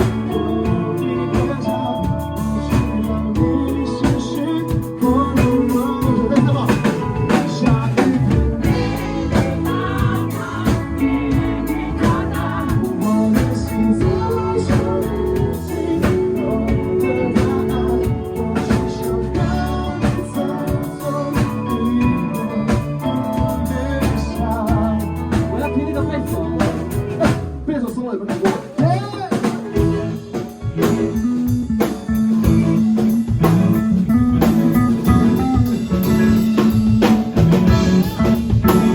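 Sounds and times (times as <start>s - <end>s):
person singing: 0.0s - 27.6s, 28.3s - 38.9s
bass: 0.0s - 38.9s
drum kit: 0.0s - 38.9s
guitar: 0.0s - 38.9s.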